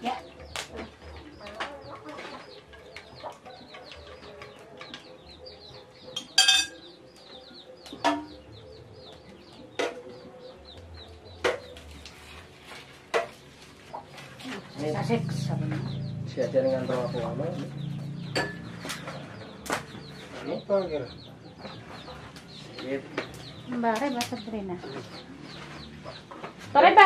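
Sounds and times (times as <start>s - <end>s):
chicks peeping: 0.2s - 6.2s, 6.8s - 27.0s.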